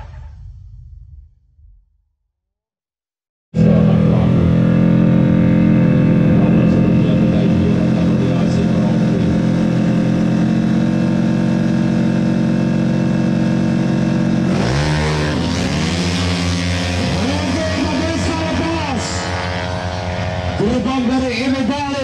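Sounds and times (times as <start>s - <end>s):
scooter engine revving: 3.6s - 22.0s.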